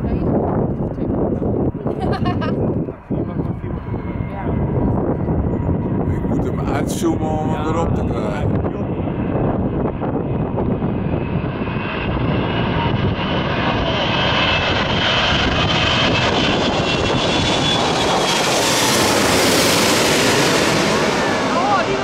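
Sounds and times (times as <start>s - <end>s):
high jet engine whine: 0.0s - 22.0s
jet airliner flying overhead: 0.0s - 22.0s.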